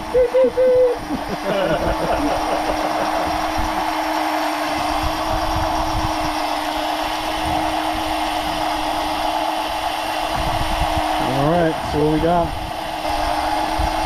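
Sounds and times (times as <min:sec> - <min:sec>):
motor running steadily: 0:00.0 - 0:14.0.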